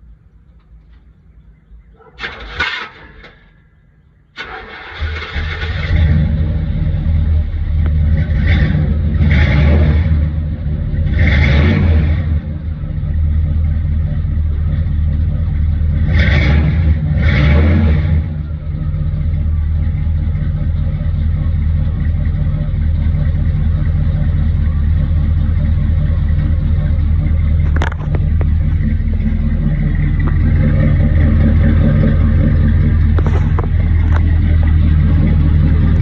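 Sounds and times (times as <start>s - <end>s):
car engine starting and revving: 4.4s - 36.0s.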